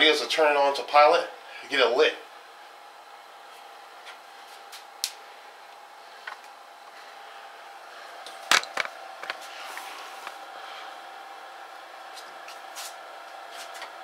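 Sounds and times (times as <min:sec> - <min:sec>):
heater fan humming: 0:00.0 - 0:14.0.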